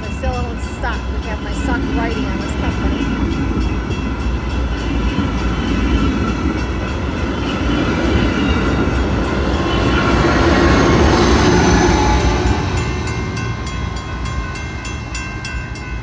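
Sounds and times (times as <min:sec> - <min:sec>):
metallic ringing from train wheels: 0:00.0 - 0:16.0.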